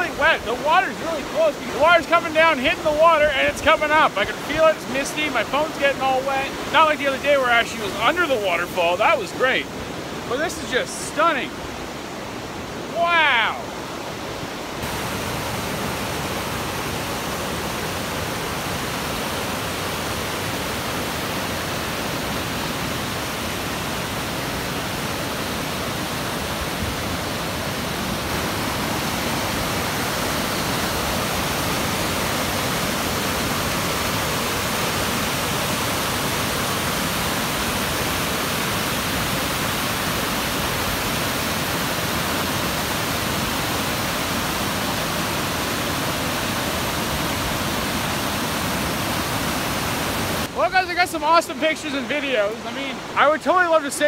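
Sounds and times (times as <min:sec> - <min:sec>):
waterfall and rapids rushing: 0:00.0 - 0:54.0.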